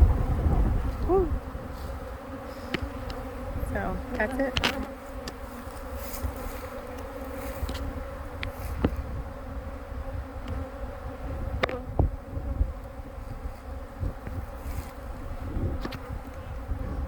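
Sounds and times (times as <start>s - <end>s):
honey bee swarm buzzing: 0.0s - 17.0s.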